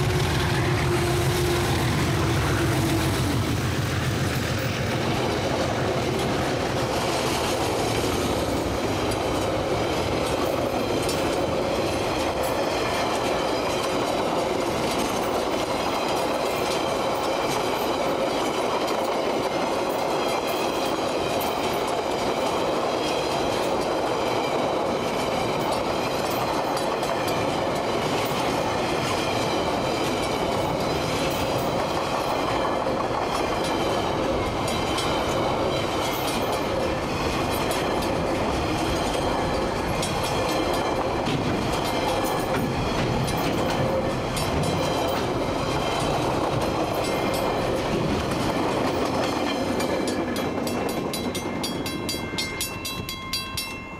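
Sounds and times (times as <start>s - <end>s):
clickety-clack over rail joints: 0.0s - 53.9s
train wheels rumbling on rails: 0.0s - 53.9s.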